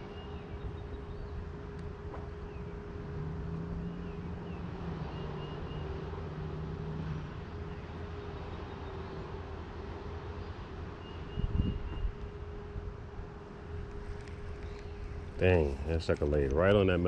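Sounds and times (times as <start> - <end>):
distant engine drone: 0.0 - 17.0
low hum: 0.0 - 17.0.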